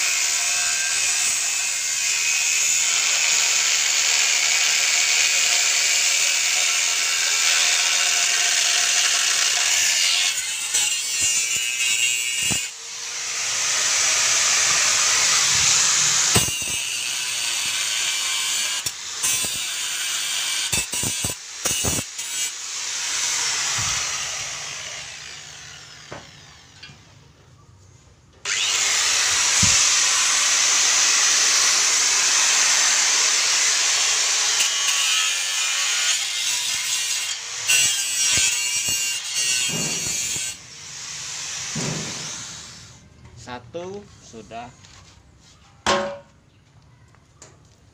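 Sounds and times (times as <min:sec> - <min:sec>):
angle grinder cutting steel: 0:00.0 - 0:27.1, 0:28.5 - 0:43.0.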